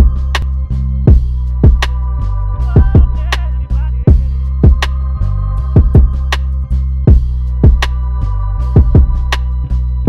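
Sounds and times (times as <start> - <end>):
instrumental hip hop beat: 0.0 - 10.0.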